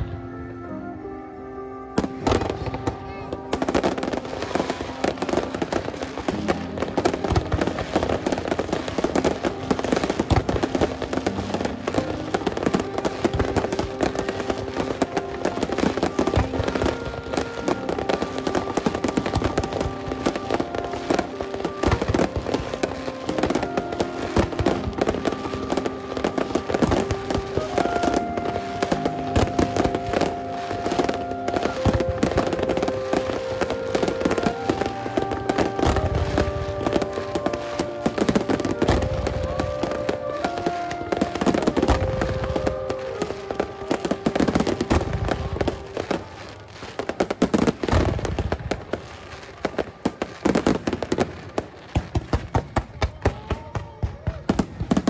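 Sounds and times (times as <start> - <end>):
music playing: 0.0 - 51.6
fireworks bangs and crackles: 0.0 - 55.0.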